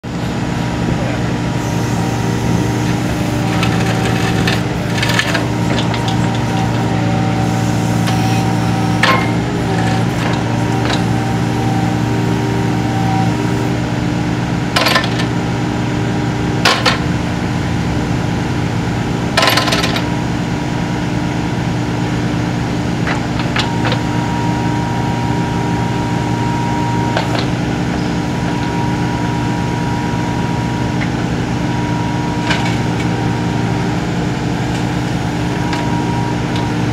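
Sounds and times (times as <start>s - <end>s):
diesel engine running: 0.0s - 36.9s
hydraulic whine: 1.3s - 20.7s, 23.0s - 36.9s.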